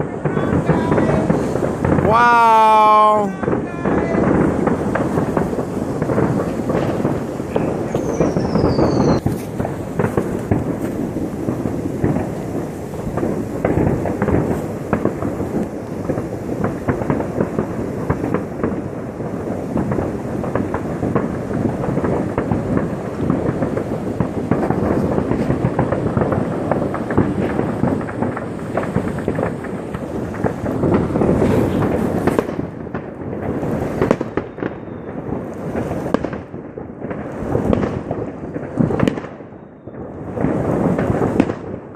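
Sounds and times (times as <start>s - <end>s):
fireworks and firecrackers banging: 0.0s - 41.9s.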